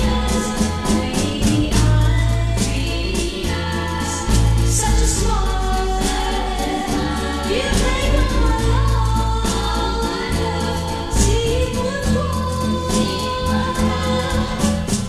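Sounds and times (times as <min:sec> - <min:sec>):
band with steady bass line: 0:00.0 - 0:15.0
person singing: 0:00.0 - 0:15.0.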